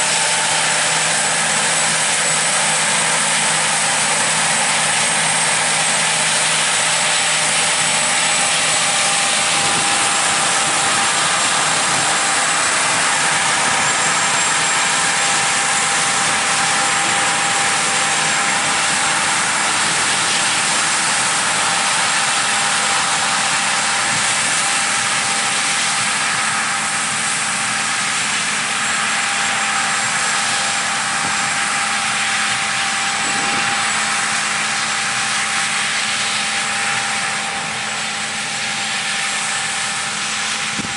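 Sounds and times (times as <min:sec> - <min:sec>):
harvest machinery running: 0:00.0 - 0:40.9
high mechanical whine: 0:00.0 - 0:40.9.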